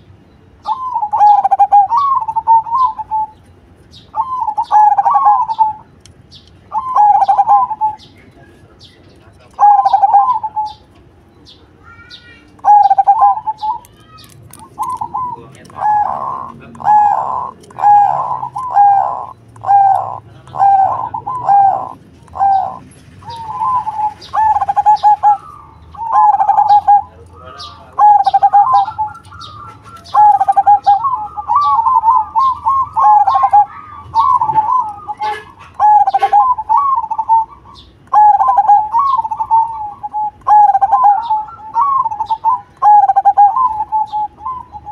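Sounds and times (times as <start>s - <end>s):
dove cooing: 0.6s - 3.4s, 4.1s - 5.9s, 6.7s - 11.0s, 12.6s - 44.9s.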